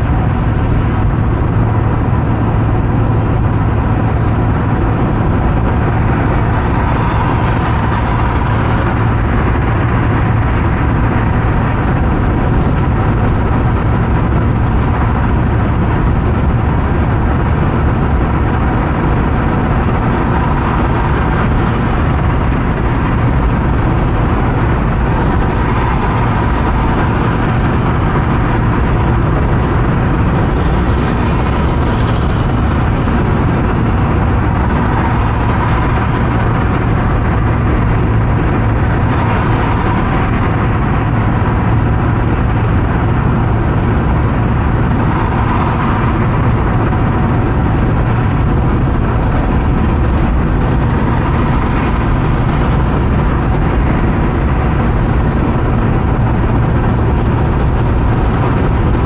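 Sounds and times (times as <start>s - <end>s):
car engine and road noise: 0.0s - 59.0s
constant low hum: 0.0s - 59.0s.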